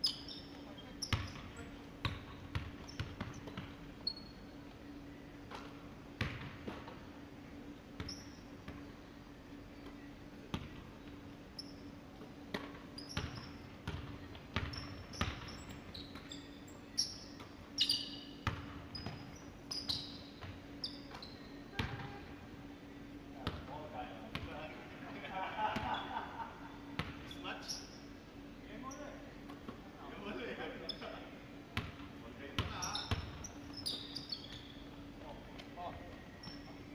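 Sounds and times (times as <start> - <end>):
sneakers squeaking: 0.0 - 7.0, 7.9 - 22.5, 26.8 - 29.8, 30.9 - 31.2, 31.8 - 36.9
steady hum: 0.0 - 36.9.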